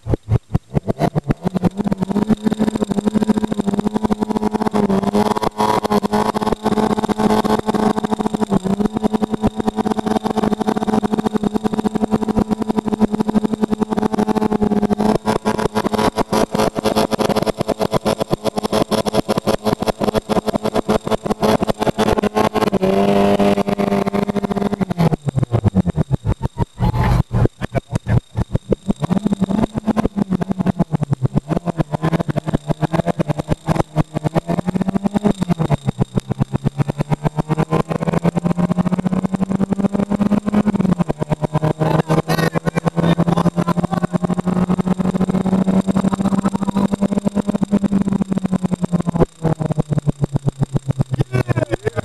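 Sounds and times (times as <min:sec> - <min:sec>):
car engine at high revs: 0:00.0 - 0:52.0.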